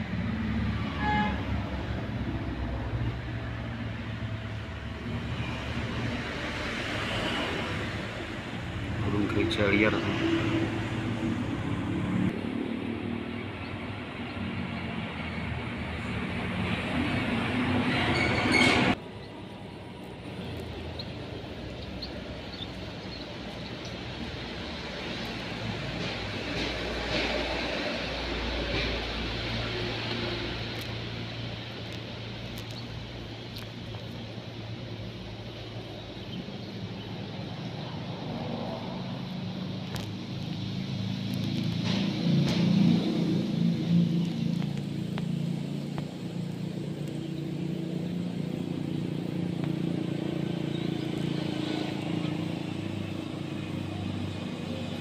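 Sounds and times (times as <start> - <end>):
vehicle engine hum: 0.0 - 55.0.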